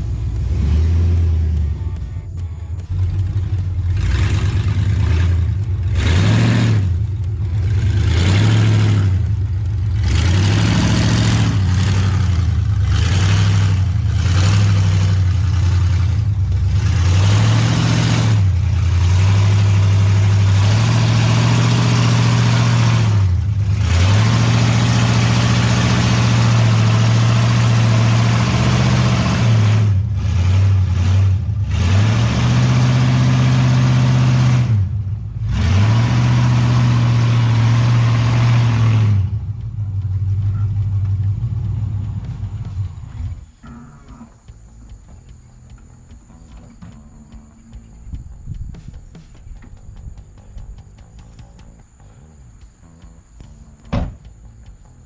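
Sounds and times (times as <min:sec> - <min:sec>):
engine revving: 0:00.0 - 0:47.8.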